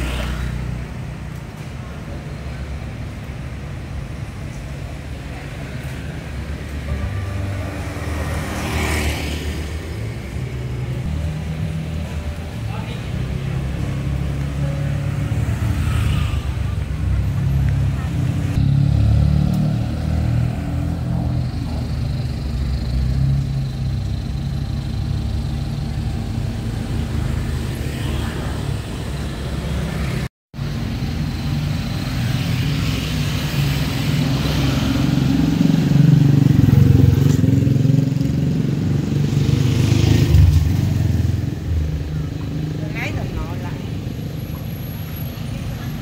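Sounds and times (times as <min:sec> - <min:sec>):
vehicles passing: 0:00.0 - 0:46.0.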